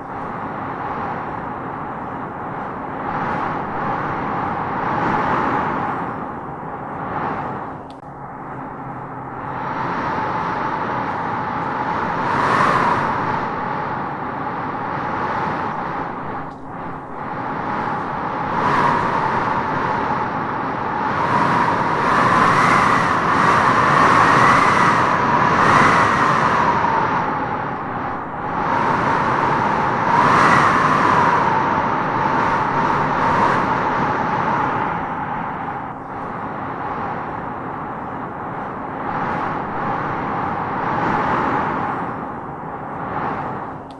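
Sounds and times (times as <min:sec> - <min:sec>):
howling gusty wind: 0:00.0 - 0:43.9.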